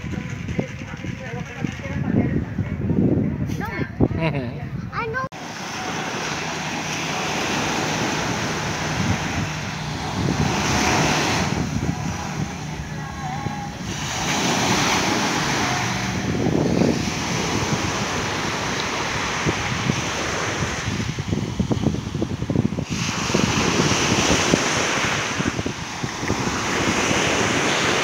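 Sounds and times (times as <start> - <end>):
wind rumbling on microphone: 0.0 - 28.0
small waves breaking on shore: 5.2 - 28.0.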